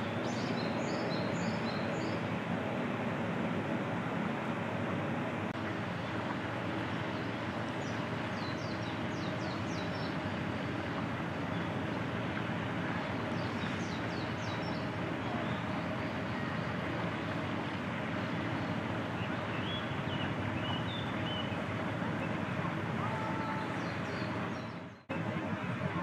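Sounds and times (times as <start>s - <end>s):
outdoor rumble and hiss: 0.0s - 26.0s.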